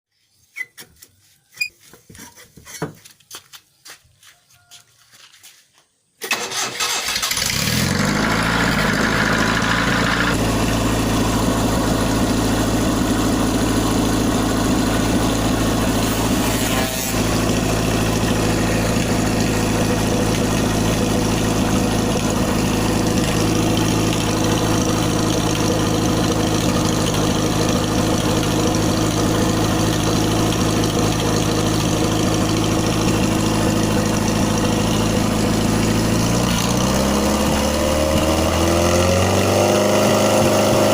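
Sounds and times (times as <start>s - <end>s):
car engine starting and idling: 6.2s - 16.4s, 17.1s - 40.9s.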